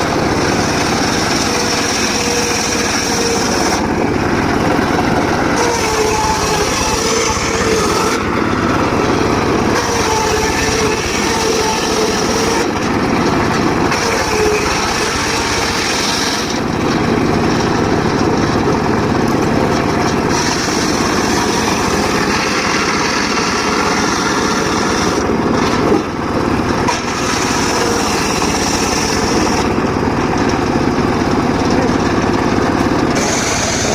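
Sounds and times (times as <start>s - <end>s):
circular saw sawing wood: 0.0s - 18.6s, 19.7s - 32.3s, 32.9s - 33.9s.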